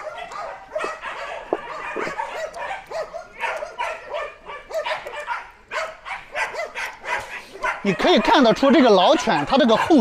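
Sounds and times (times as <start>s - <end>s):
dogs barking and yipping: 0.0s - 10.0s.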